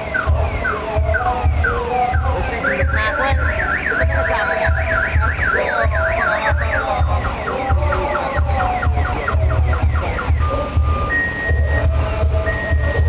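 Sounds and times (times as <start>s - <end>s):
electronic alarm siren: 0.0s - 13.0s
low thumping beat: 0.0s - 13.0s.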